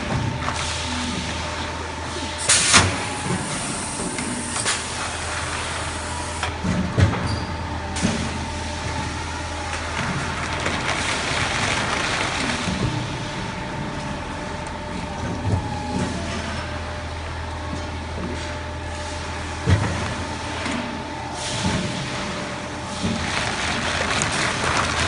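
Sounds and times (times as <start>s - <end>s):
machine hum with faint whine: 0.0s - 25.0s.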